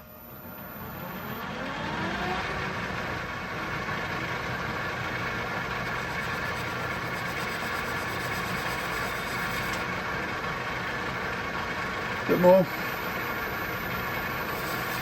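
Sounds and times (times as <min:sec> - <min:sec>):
metal lathe humming: 0:00.3 - 0:15.0.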